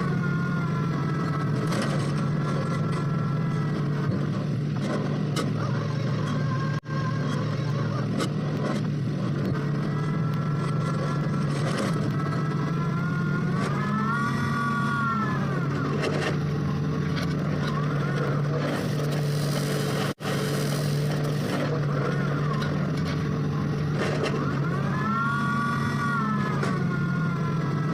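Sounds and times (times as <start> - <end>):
drilling machine engine running: 0.0 - 27.9.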